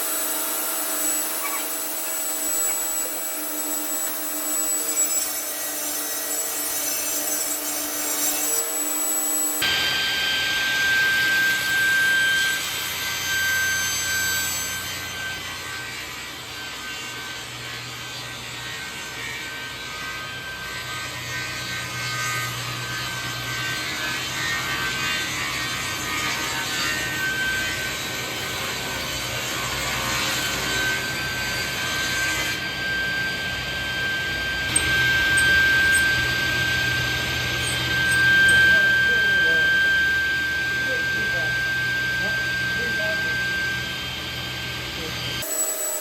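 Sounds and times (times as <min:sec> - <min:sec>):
power saw cutting wood: 0:00.0 - 0:46.0.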